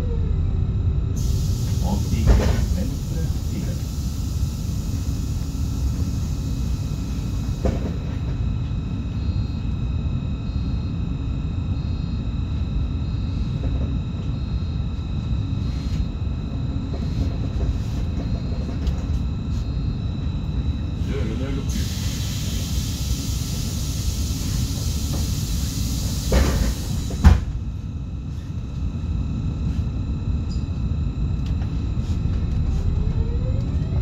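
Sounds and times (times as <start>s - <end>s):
train equipment rumble: 0.0s - 9.6s, 12.5s - 34.0s.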